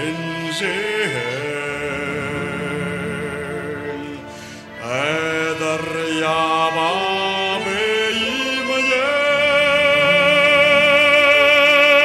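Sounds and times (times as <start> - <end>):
folk instrument ensemble: 0.0 - 12.0
man singing opera style: 0.0 - 12.0.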